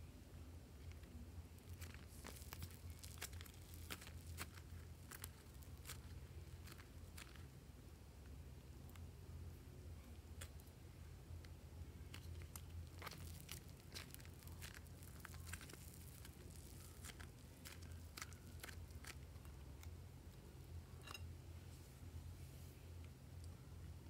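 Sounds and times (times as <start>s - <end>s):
clay kneaded by hand crackling: 0.0s - 24.0s.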